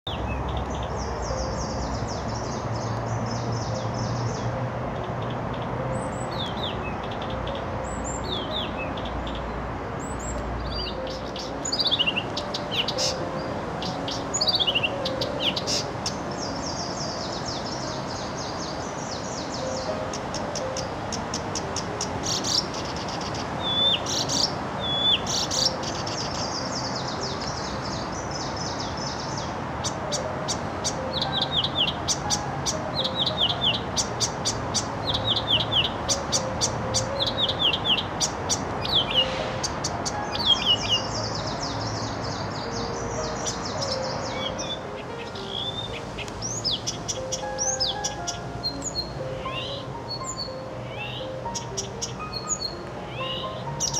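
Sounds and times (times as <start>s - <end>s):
warbler singing: 0.0s - 53.9s.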